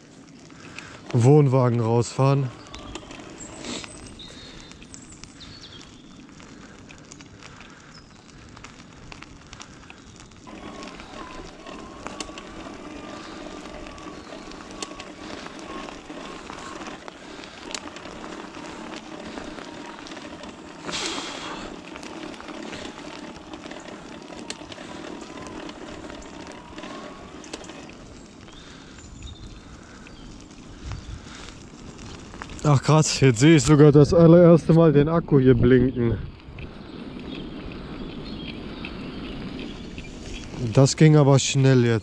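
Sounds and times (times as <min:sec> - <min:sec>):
electric bike motor whine: 0:00.0 - 0:08.2, 0:08.8 - 0:33.0, 0:33.7 - 0:41.3
bike tyres crackling over ground: 0:00.0 - 0:42.0.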